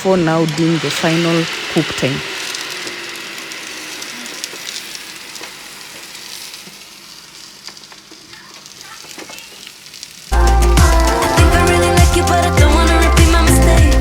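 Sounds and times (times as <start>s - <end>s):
ribs sizzling on grill pan: 0.0s - 14.0s.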